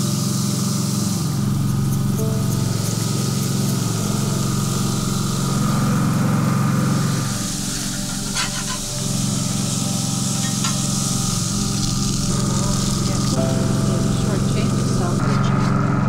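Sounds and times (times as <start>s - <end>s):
burger patties sizzling on grill: 0.0s - 16.0s
low droning hum: 0.0s - 16.0s.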